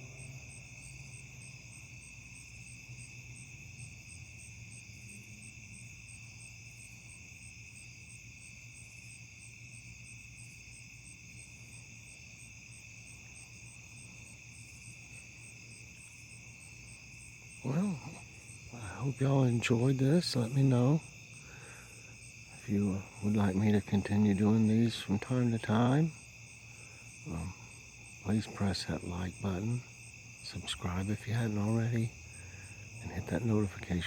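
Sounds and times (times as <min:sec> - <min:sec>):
crickets and insects trilling: 0:00.0 - 0:34.0
faint low hum: 0:00.0 - 0:34.0.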